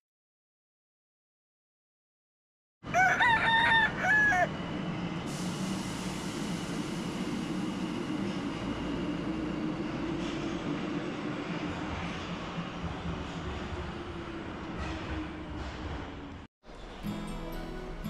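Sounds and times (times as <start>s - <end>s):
subway train rumble and hiss: 2.9s - 18.0s.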